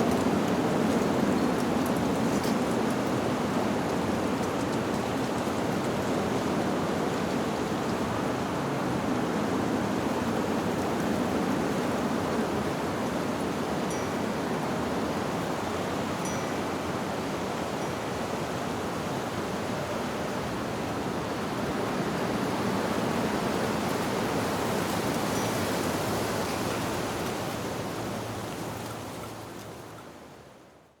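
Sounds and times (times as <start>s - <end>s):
wind rushing through leaves: 0.0s - 31.0s.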